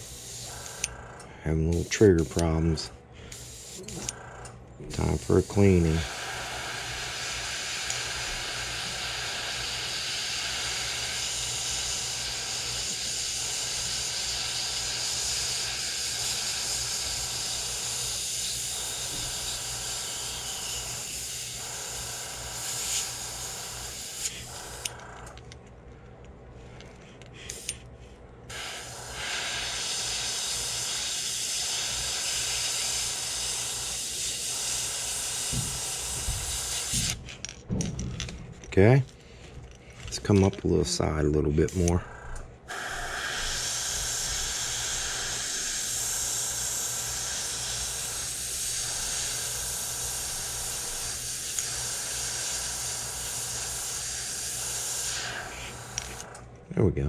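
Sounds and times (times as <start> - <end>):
airbrush hissing compressed air: 0.0 - 0.9, 1.5 - 4.2, 4.9 - 25.0, 27.4 - 27.8, 28.5 - 37.2, 41.6 - 56.4.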